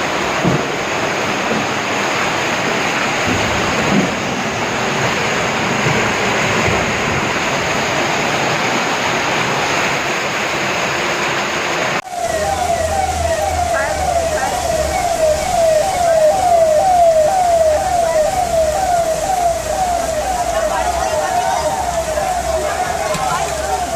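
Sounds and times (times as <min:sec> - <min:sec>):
rushing water: 0:00.0 - 0:23.9.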